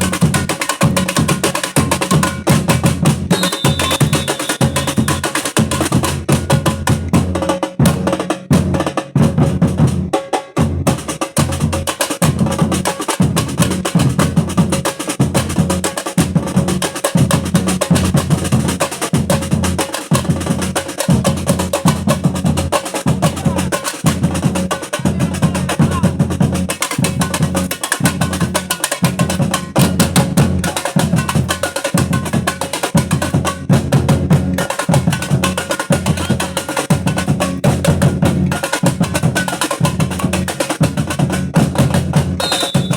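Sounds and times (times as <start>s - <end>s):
rapid higher drumming: 0.0s - 42.9s.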